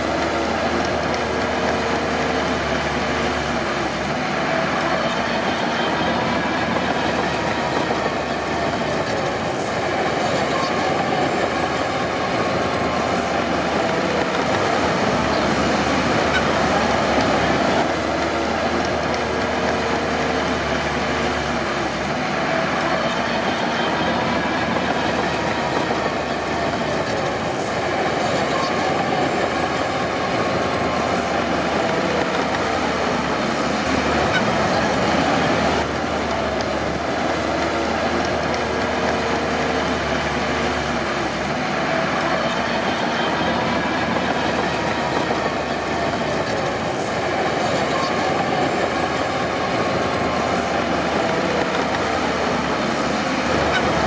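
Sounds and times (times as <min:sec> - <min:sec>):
diesel engine running: 0:00.0 - 0:54.0
steel tracks clattering: 0:00.0 - 0:54.0.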